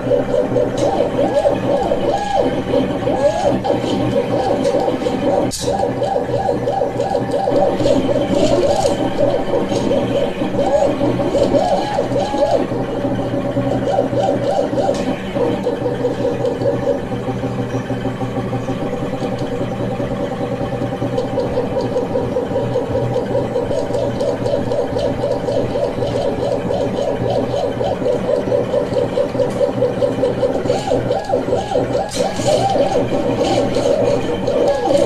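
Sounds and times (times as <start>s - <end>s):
stepper motors whining: 0.0s - 35.0s.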